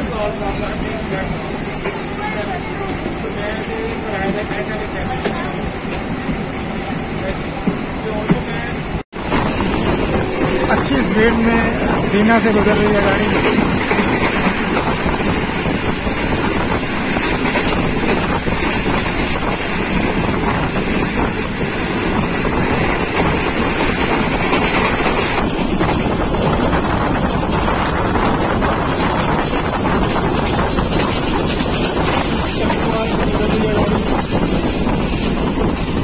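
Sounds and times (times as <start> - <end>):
train wheels on rails: 0.0 - 36.0
wind blowing across microphone: 0.1 - 36.0.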